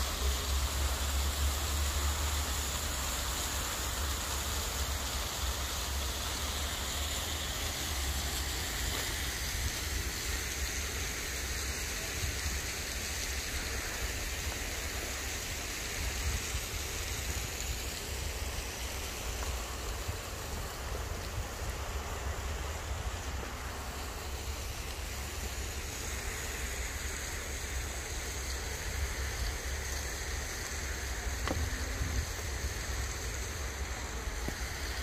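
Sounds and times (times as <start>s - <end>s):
fountain jets splashing: 0.0s - 35.0s.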